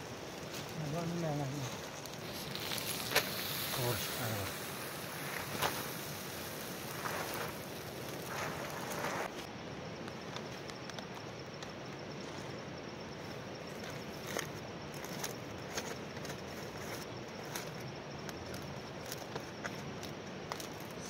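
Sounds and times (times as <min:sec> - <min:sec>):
steady rushing hiss: 0:00.0 - 0:21.0
thin high insect-like hum: 0:00.0 - 0:21.0.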